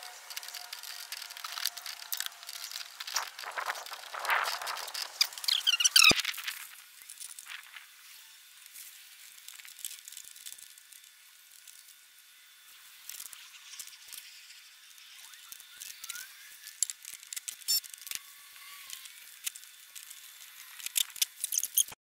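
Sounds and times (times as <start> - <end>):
small tools clicking and rattling: 0.0 - 7.9, 9.4 - 12.0, 13.0 - 22.0.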